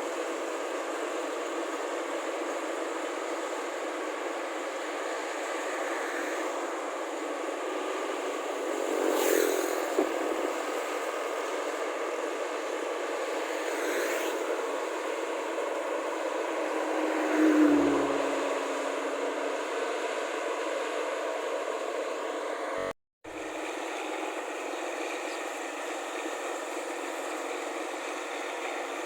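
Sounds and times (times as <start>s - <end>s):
combine harvester engine drone: 0.0s - 29.0s
road vehicles passing: 0.1s - 29.0s.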